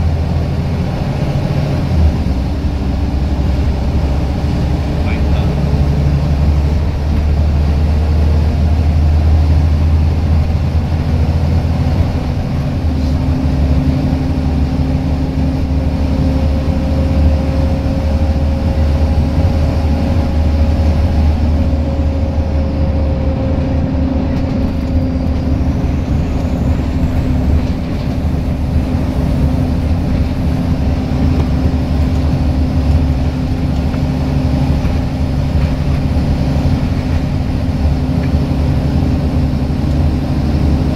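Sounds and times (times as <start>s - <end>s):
bus engine droning: 0.0s - 40.9s.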